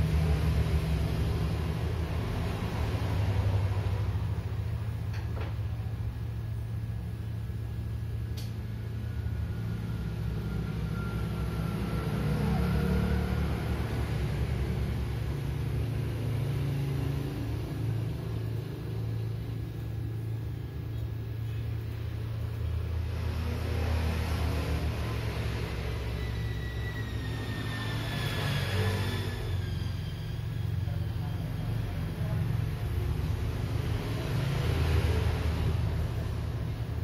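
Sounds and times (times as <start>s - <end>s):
faint whine drifting in pitch: 0.0s - 37.0s.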